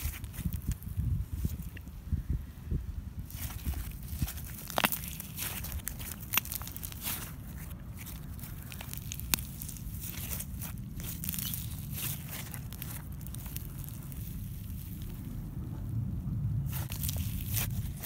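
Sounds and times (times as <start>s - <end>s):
slime crackling and squishing: 0.0s - 1.8s, 3.2s - 18.0s.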